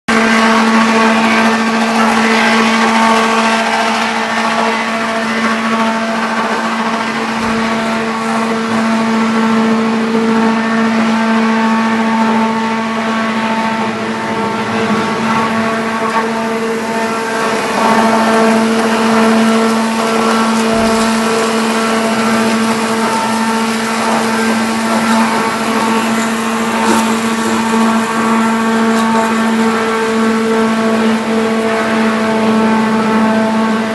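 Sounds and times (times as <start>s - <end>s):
wood shredder droning: 0.1s - 33.9s.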